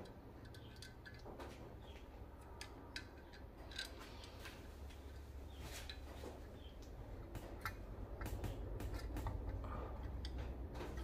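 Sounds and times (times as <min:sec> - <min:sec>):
light clicks of metal parts: 0:00.0 - 0:11.0.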